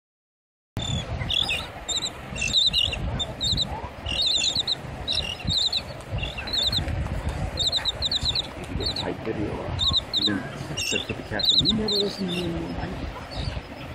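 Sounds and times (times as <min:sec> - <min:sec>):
terns chirping: 0:00.8 - 0:06.9, 0:07.6 - 0:13.9.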